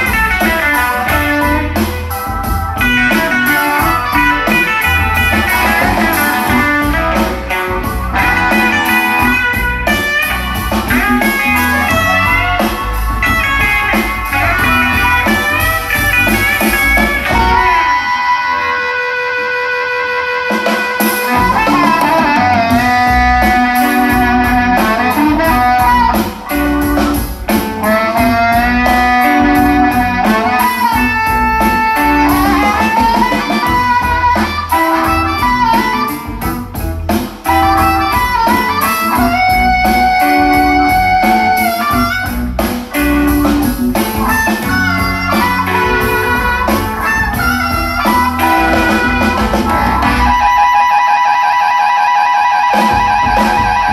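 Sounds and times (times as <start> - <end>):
guitar-led music with bass: 0.0 - 53.9.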